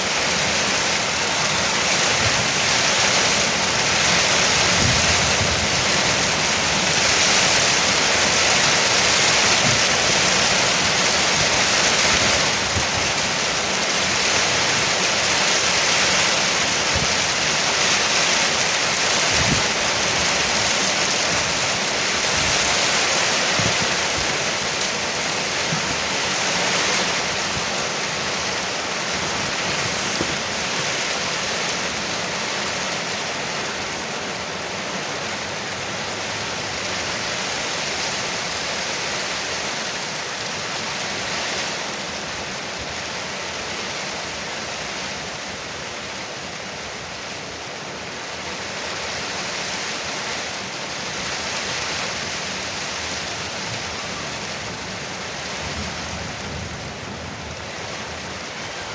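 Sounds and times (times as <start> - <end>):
heavy rain on a roof: 0.0 - 58.9.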